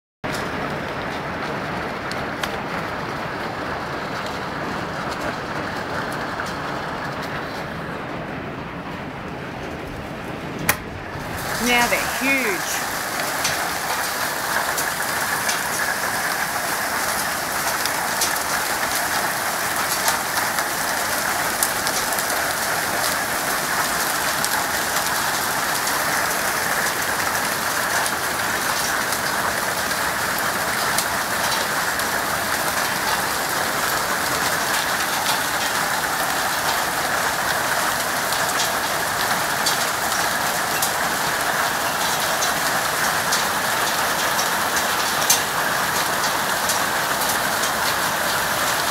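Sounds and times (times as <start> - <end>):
hail and heavy rain hiss: 0.3 - 48.9
hailstones ticking on surfaces: 0.3 - 48.9.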